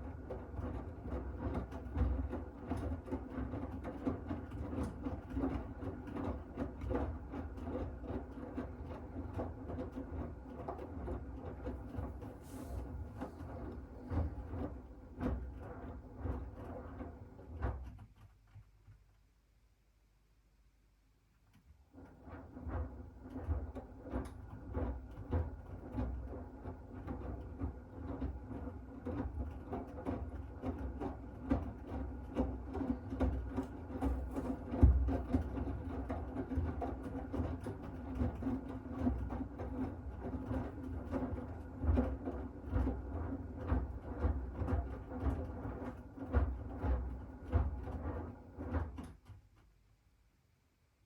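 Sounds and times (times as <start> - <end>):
washing machine drum hum: 0.0 - 17.9, 22.0 - 49.3.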